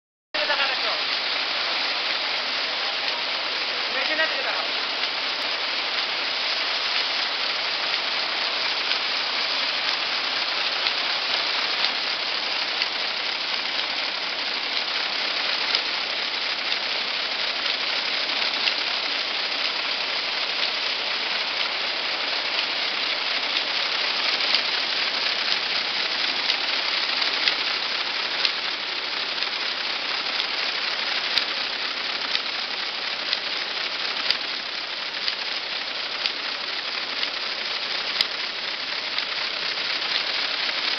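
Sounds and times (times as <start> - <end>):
braiding machine rattling: 0.4 - 40.9.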